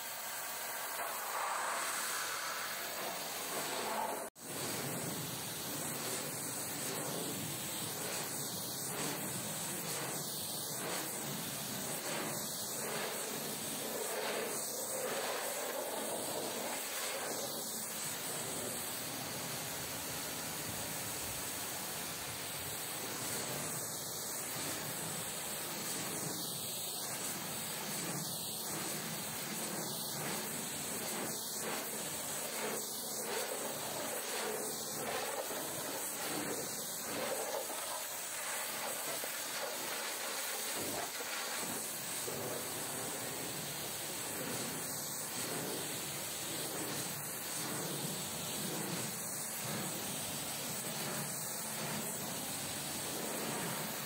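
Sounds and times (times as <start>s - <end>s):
pressure washer spray hissing: 0.0s - 54.0s.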